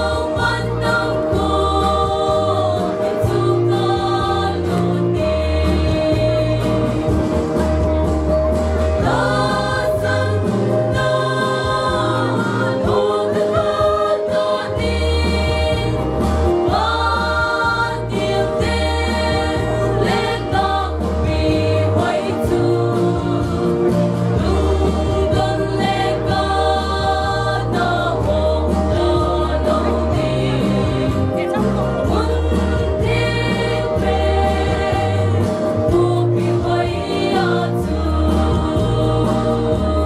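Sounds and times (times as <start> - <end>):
choir singing a hymn in harmony: 0.0 - 8.0, 8.8 - 40.0
instrumental accompaniment with bass line: 0.0 - 40.0.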